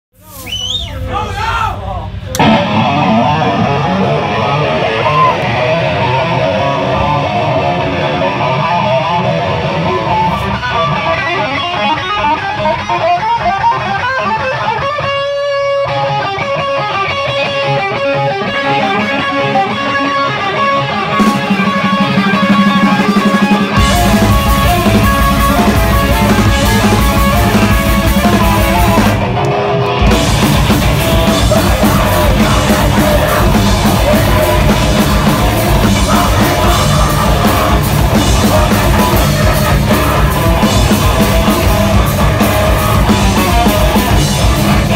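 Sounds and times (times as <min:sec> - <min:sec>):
metal band playing: 0:00.2 - 0:44.9.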